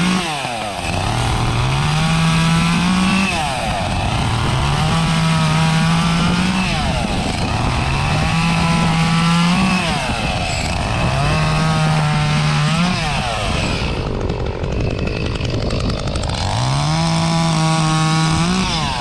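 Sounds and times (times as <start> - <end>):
two-stroke chainsaw revving: 0.0 - 19.0.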